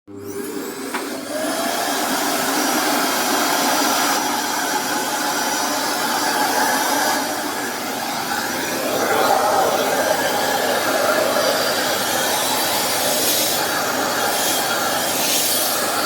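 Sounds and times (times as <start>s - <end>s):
vacuum cleaner motor running: 0.1s - 16.0s.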